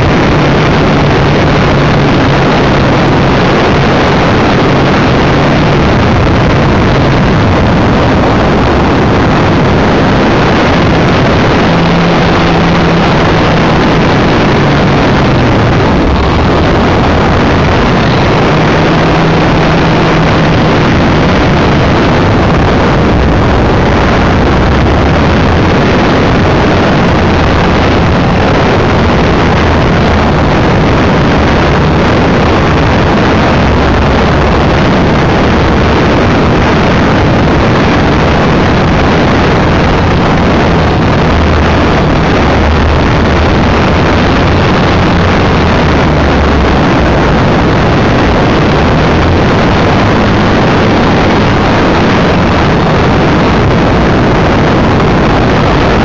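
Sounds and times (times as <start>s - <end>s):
wind rush over microphone: 0.0s - 56.0s.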